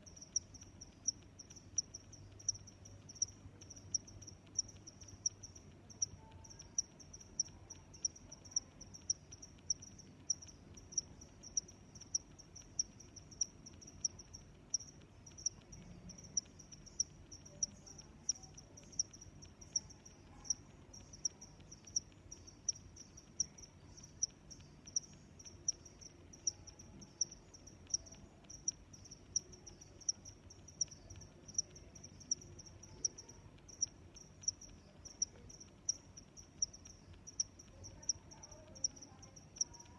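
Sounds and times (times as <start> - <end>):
cricket chirping: 0.0 - 39.9
faint low hum: 0.0 - 39.9.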